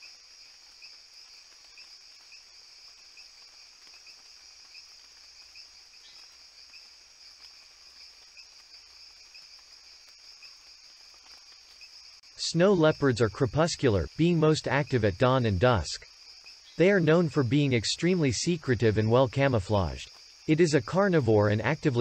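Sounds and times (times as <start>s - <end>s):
high-pitched insect trill: 0.0s - 22.0s
lower insect chirp: 0.0s - 22.0s.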